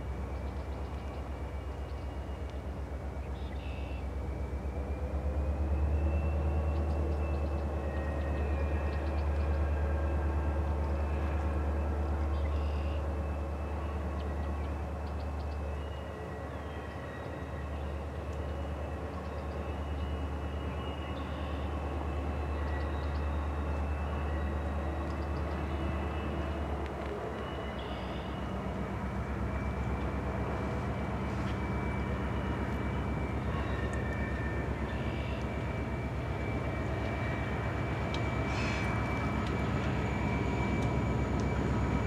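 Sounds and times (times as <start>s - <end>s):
diesel locomotive engine rumbling: 0.0s - 42.0s.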